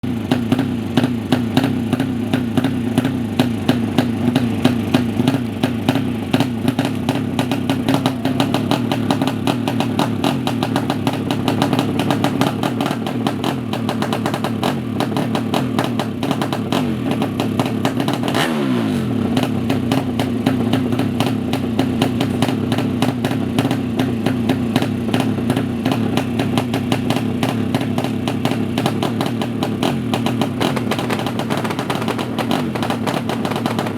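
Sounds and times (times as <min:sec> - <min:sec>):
motorcycle engine idling and crackling: 0:00.0 - 0:33.9.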